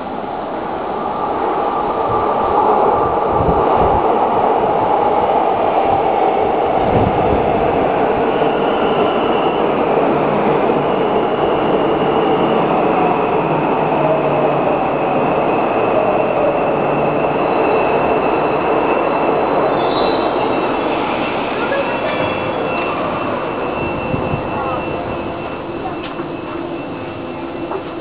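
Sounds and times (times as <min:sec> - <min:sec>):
high train whine: 0:00.0 - 0:28.0
metro train rumble: 0:00.0 - 0:28.0.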